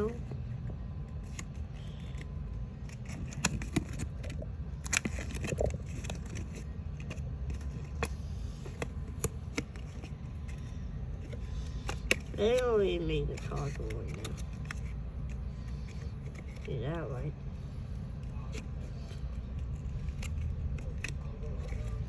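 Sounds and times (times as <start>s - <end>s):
paper and cardboard being handled: 0.0s - 22.0s
steady low rumble: 0.0s - 22.0s.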